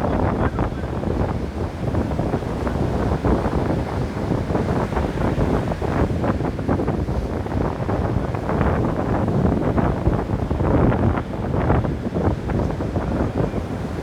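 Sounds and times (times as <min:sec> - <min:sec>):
ocean surf on a beach: 0:00.0 - 0:14.0.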